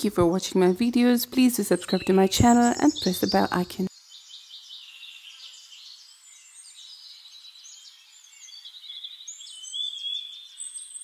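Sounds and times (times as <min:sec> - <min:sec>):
birdsong chirps and trills: 0:00.1 - 0:11.0.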